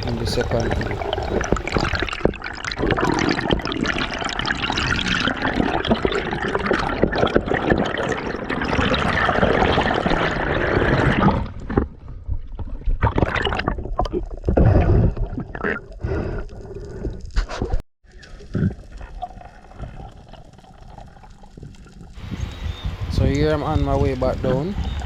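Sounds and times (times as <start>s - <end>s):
water sloshing and gurgling: 0.0s - 23.2s.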